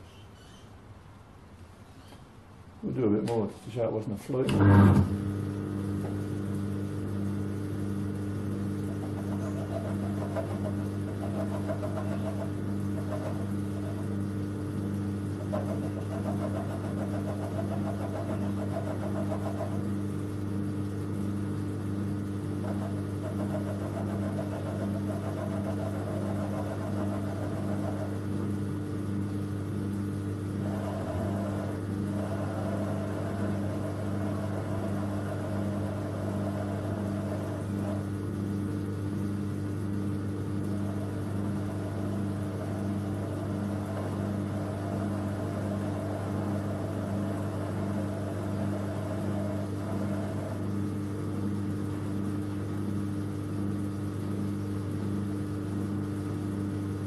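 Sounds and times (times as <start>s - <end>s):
lathe motor humming: 4.5s - 54.7s.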